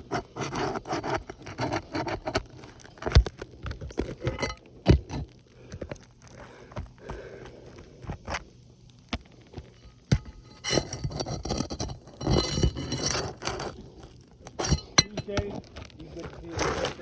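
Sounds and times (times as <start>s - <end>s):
scraping on shingle roof: 0.0s - 17.0s.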